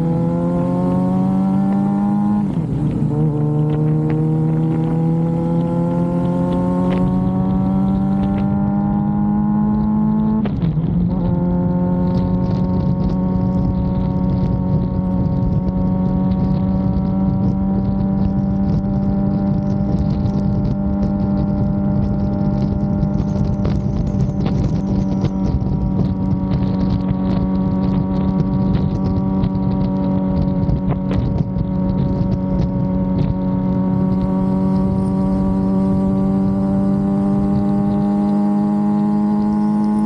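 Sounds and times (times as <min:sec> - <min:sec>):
motorcycle engine cruising: 0:00.0 - 0:40.0
wind rush: 0:00.0 - 0:40.0.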